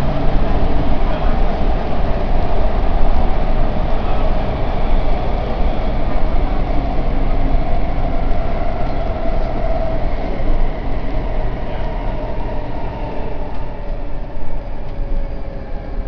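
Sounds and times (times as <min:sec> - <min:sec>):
train drive hum: 0:00.0 - 0:16.0
train wheels rumbling on rail: 0:00.0 - 0:16.0.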